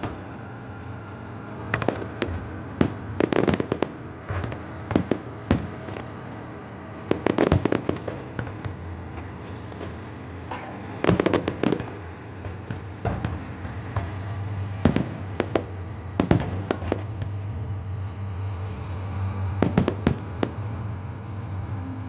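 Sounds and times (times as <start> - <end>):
fireworks bangs and crackles: 0.0 - 18.0, 19.4 - 21.6
low rumble: 0.0 - 22.0.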